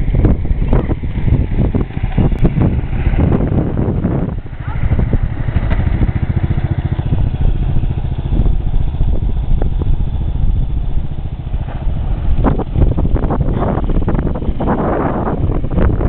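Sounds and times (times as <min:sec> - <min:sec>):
lawn mower engine running hard: 0:00.0 - 0:16.0.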